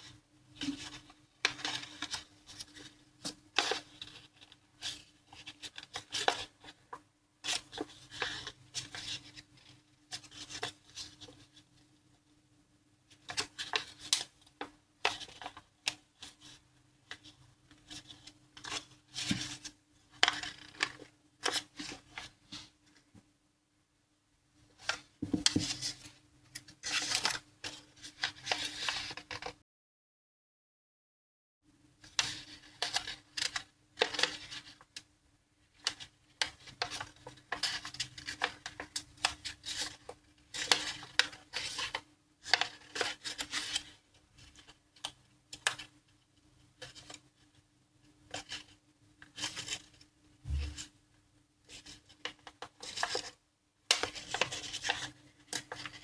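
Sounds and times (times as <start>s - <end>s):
paper folding crackles: 0.6s - 11.6s, 13.1s - 22.7s, 24.8s - 29.6s, 32.0s - 35.0s, 35.7s - 45.9s, 46.8s - 47.4s, 48.3s - 50.9s, 51.6s - 56.0s.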